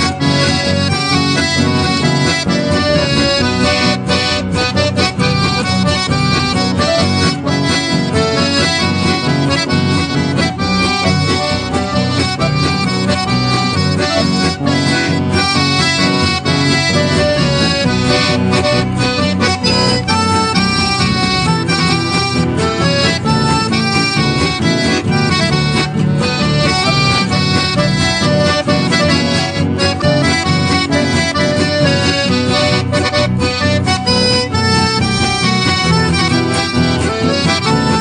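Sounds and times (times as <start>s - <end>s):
accordion folk dance music: 0.0s - 38.0s.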